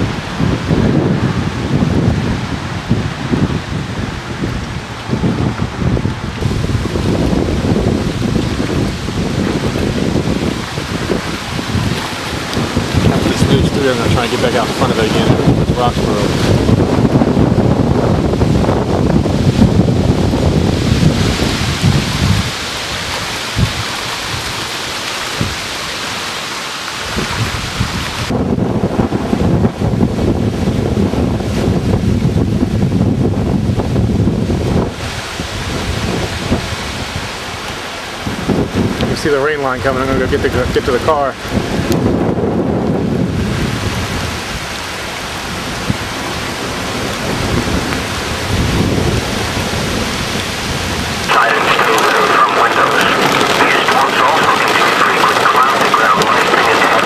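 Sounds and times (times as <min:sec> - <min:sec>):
low thunder rumble: 0:00.0 - 0:25.7, 0:27.0 - 0:57.0
rain hissing: 0:00.0 - 0:57.0
trees thrashing in wind: 0:00.0 - 0:57.0
wind buffeting microphone: 0:00.0 - 0:57.0.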